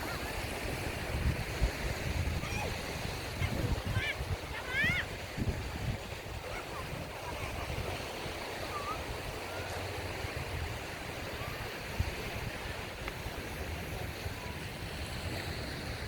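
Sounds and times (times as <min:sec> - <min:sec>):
surf washing onto beach: 0:00.0 - 0:16.0
wind on microphone: 0:00.0 - 0:16.0.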